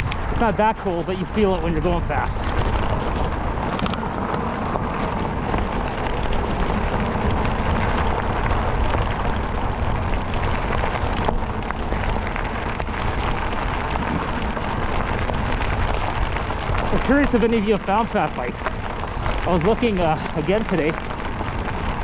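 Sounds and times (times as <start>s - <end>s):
wind rush over microphone: 0.0s - 22.0s.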